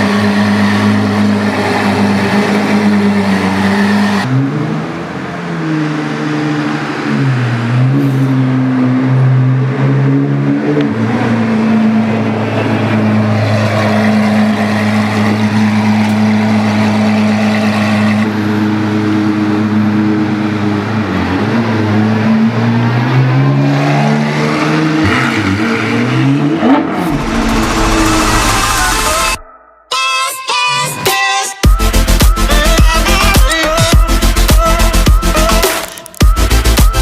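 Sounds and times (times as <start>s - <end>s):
car engine revving and idling: 0.0s - 29.5s, 31.7s - 37.0s.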